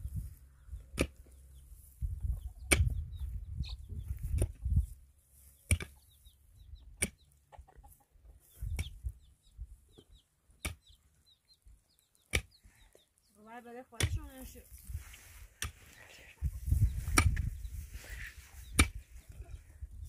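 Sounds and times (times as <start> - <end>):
chicks peeping: 0.0 - 20.0
chickens clucking: 0.1 - 19.9.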